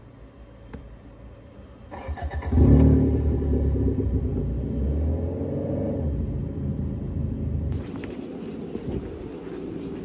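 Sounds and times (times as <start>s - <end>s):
car engine rumble inside cabin: 0.0s - 10.0s.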